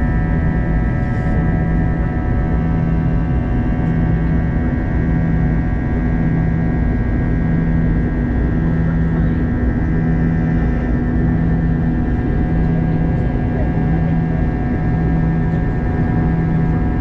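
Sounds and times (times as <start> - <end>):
jet engine and airflow noise: 0.0 - 17.0
pulsing low hum: 0.0 - 17.0.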